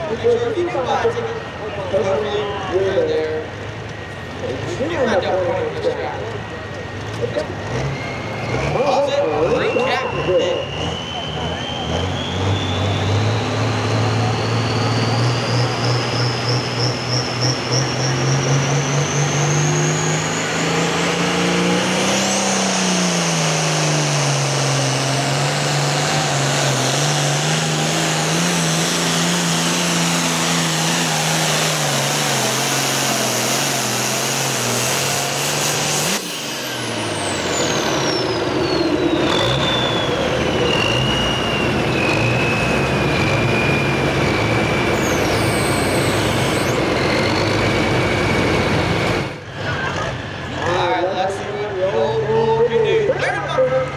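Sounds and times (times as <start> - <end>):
diesel tractor engine at full power: 0.0 - 53.9
high turbo whine: 0.0 - 53.9.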